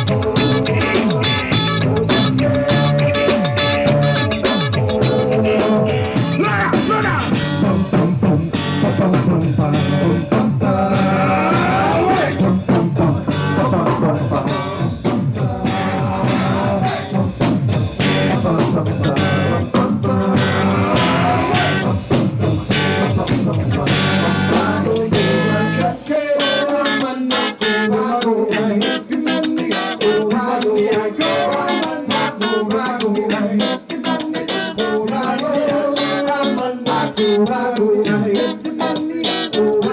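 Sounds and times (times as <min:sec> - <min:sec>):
bass guitar: 0:00.0 - 0:39.9
drums: 0:00.0 - 0:39.9
guitar: 0:00.0 - 0:39.9
person singing: 0:00.0 - 0:39.9.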